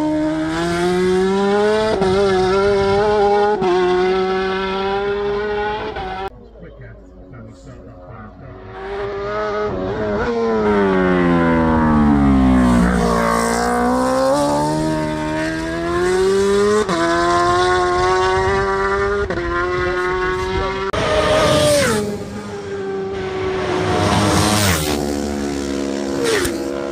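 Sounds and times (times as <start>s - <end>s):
racing motorcycle engine revving: 0.0s - 6.3s, 8.4s - 26.9s.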